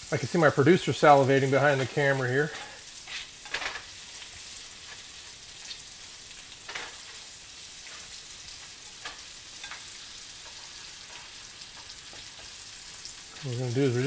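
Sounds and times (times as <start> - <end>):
vegetables sizzling in a frying pan: 0.0 - 14.0
spatula scraping a pan: 1.7 - 13.5.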